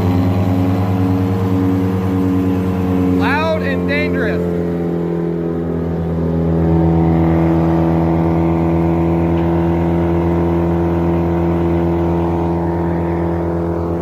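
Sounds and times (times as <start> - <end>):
wood chipper engine running: 0.0 - 14.0.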